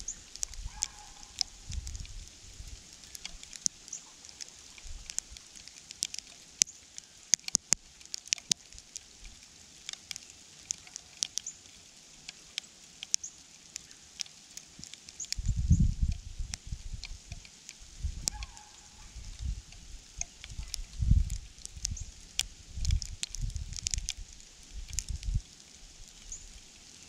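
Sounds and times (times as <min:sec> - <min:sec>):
light ticking and tapping: 0:00.0 - 0:27.0.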